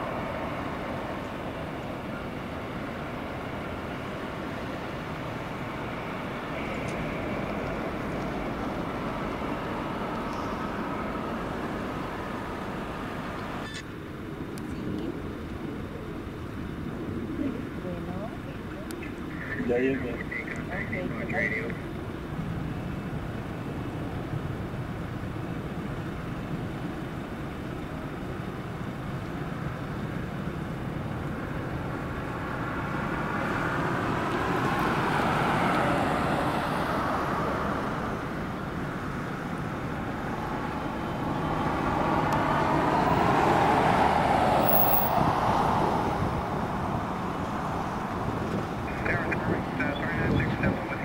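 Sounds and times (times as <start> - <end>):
jet engines at takeoff thrust: 0.0 - 51.0.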